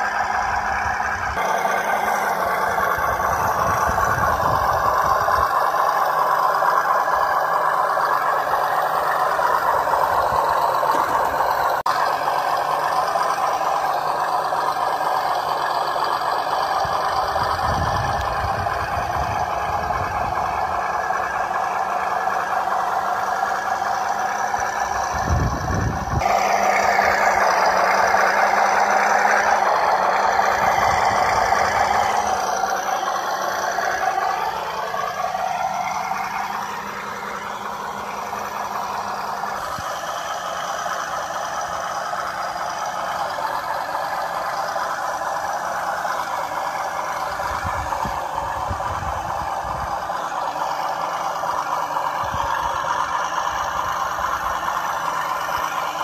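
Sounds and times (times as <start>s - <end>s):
electric motor and gearbox whining: 0.0s - 56.0s.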